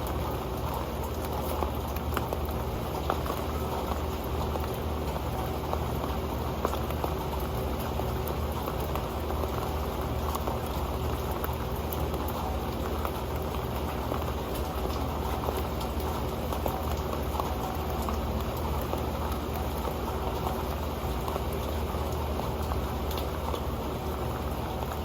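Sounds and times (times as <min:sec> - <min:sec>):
raindrops tapping on a pan: 0:00.0 - 0:25.0.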